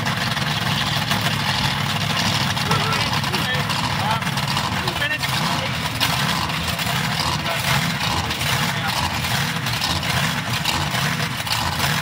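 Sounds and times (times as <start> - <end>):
monster truck engines idling: 0.0 - 12.0.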